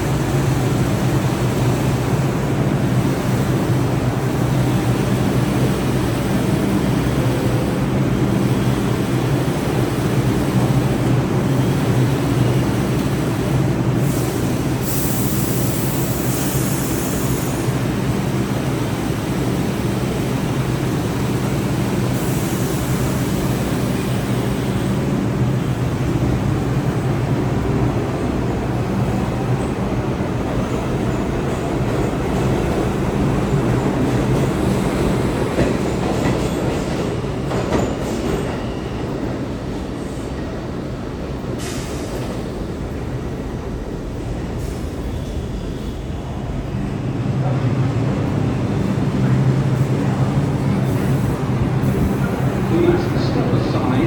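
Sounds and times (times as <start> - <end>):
subway train rumbling on rails: 0.0 - 54.0.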